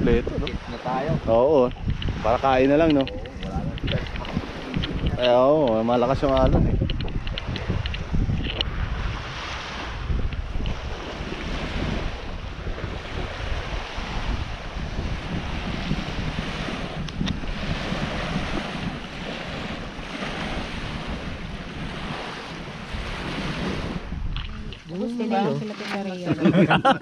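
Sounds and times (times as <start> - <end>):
sea waves washing in: 0.0 - 27.0
wind rumbling on microphone: 0.0 - 27.0.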